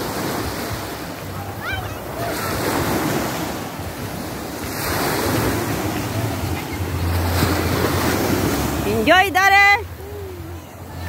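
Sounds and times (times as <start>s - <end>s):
small waves breaking on sand: 0.0s - 11.0s.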